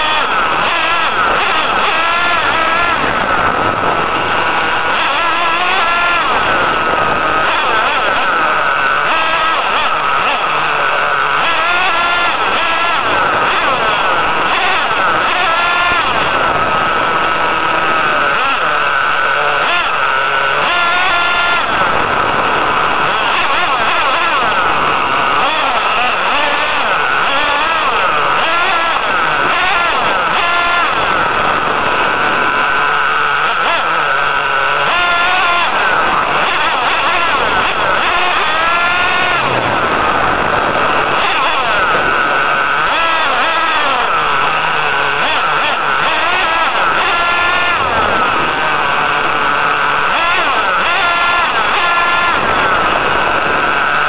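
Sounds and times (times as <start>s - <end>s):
nitro engine high-pitched whine: 0.0s - 54.0s.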